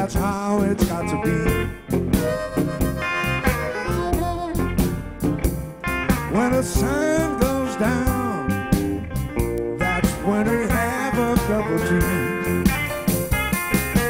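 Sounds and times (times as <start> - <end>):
blues band playing: 0.0 - 14.0
blues harmonica bending notes: 0.4 - 14.0.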